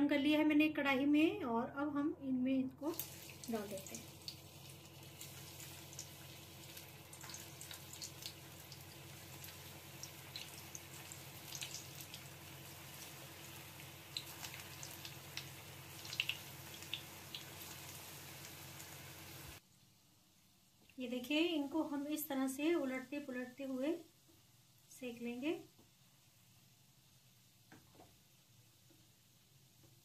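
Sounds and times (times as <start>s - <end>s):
faint steady hum: 0.0s - 30.0s
deep-frying sizzle with pops: 2.8s - 21.8s, 22.9s - 30.0s.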